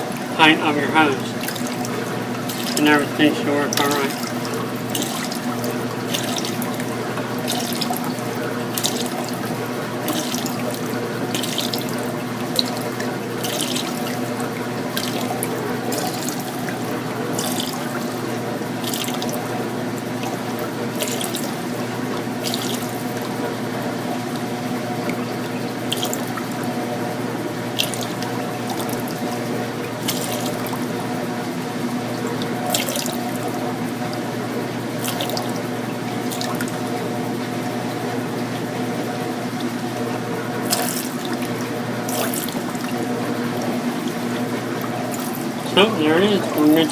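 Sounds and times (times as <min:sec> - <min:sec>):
steady hum: 0:00.0 - 0:46.9
water gushing into sink: 0:00.0 - 0:46.9
water splashing: 0:00.0 - 0:46.9.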